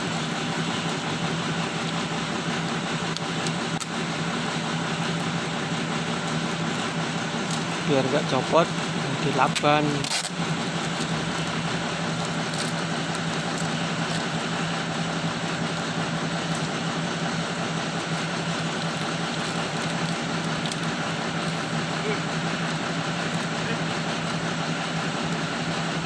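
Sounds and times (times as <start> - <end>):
excavator diesel engine idling: 0.0 - 26.0.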